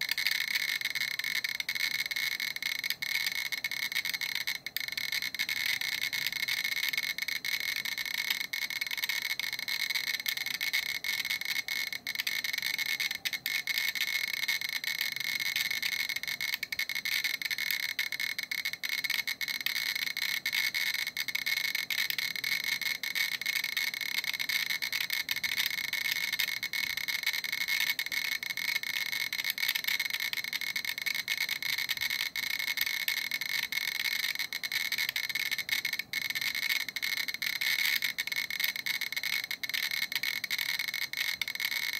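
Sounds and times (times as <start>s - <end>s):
geiger counter clicking rapidly: 0.0s - 41.9s.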